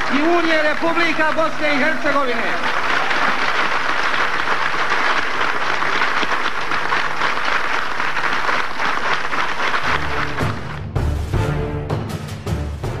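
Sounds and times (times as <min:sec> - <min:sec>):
audience applause: 0:00.0 - 0:10.9.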